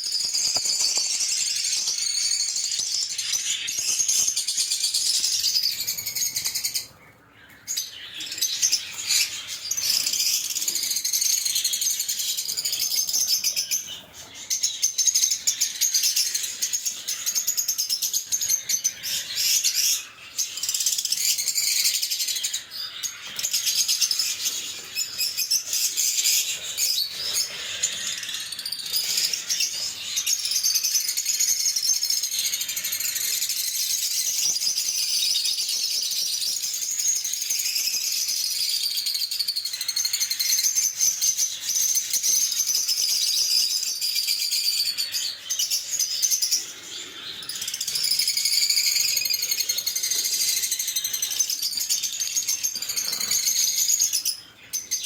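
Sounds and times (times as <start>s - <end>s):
lovebirds chirping and chattering: 0.0s - 55.0s.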